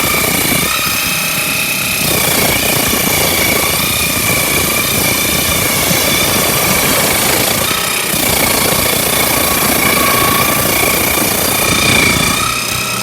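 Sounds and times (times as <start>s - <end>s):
table saw cutting wood: 0.0s - 13.0s
lower whine: 2.1s - 13.0s.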